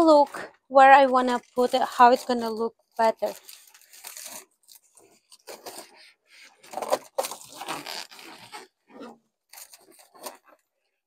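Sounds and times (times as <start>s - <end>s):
balloons rubbing and crinkling: 0.9s - 10.6s.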